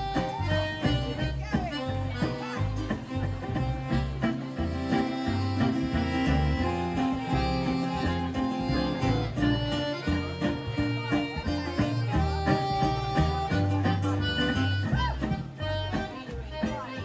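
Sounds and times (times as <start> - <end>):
accordion: 0.0 - 17.0
double bass walking line: 0.0 - 17.0
guitars: 0.0 - 17.0.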